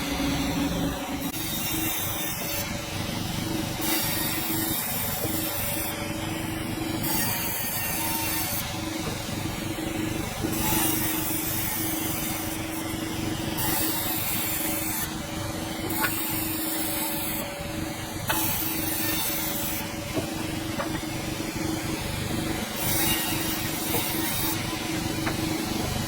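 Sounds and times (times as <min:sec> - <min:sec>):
sawmill mechanical hum: 0:00.0 - 0:26.0.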